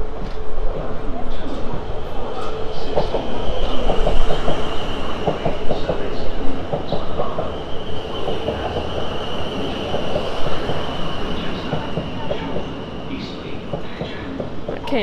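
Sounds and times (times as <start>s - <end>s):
train wheels clattering: 0.0s - 15.0s.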